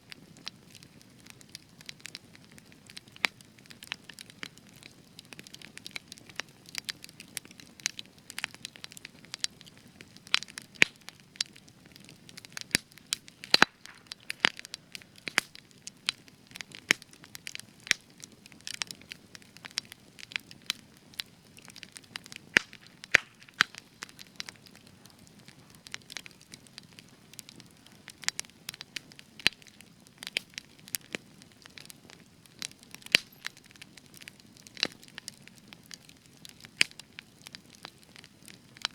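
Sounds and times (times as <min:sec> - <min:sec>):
campfire crackling and popping: 0:00.0 - 0:38.9
low hiss of burning: 0:00.0 - 0:38.9.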